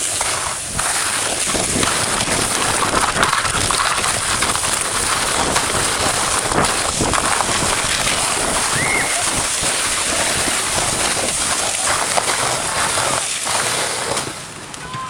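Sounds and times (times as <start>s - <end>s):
sled runners hissing on snow: 0.0s - 14.7s.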